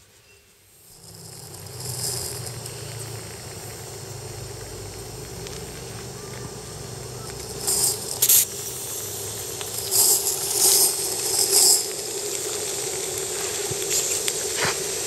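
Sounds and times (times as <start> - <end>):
model steam locomotive hissing: 0.0 - 15.0
steady hum: 0.6 - 15.0.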